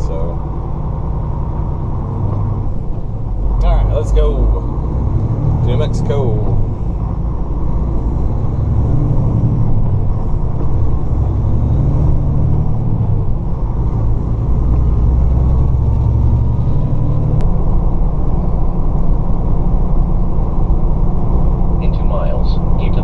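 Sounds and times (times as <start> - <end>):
truck diesel engine through gears: 0.0 - 23.0.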